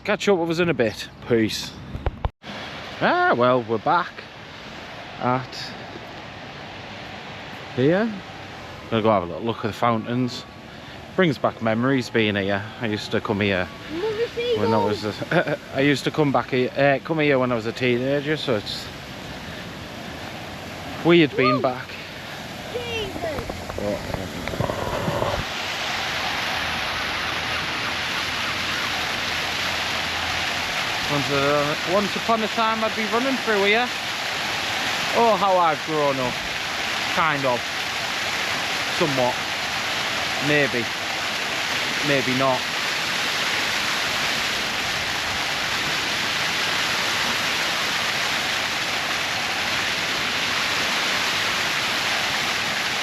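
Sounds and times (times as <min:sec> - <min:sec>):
fountain water splashing: 0:02.4 - 0:53.0.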